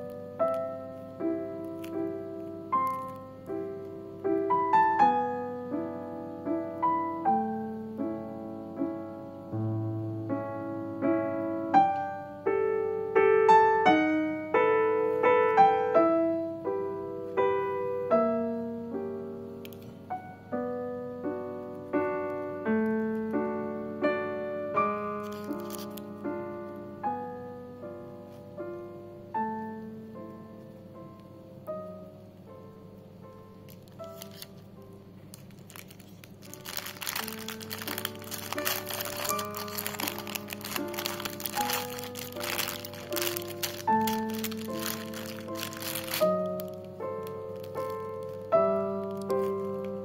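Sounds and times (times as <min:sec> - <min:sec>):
gentle piano music: 0:00.0 - 0:50.0.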